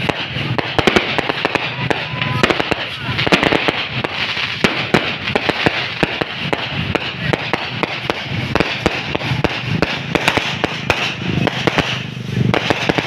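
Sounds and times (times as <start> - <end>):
background rumble: 0.0 - 13.0
fireworks crackling bangs: 0.0 - 13.0.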